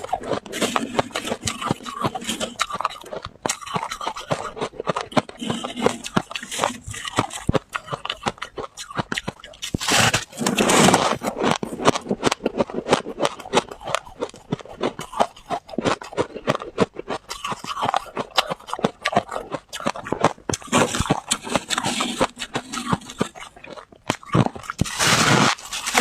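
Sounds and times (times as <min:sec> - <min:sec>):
frost being chewed: 0:00.0 - 0:26.0.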